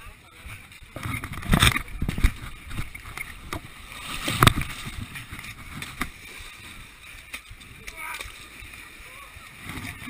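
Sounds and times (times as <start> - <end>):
muddy water splashing: 0.2 - 10.0.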